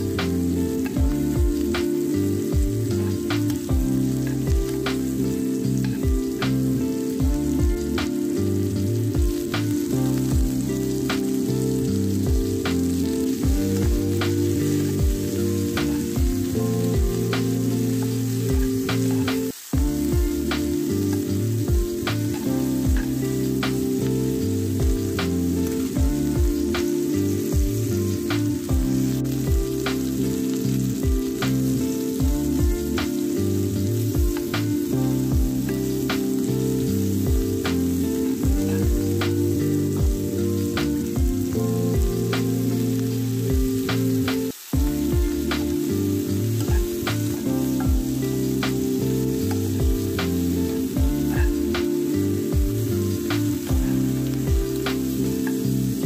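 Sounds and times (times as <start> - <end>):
vegetables sizzling in frying pan: 0.0 - 56.0.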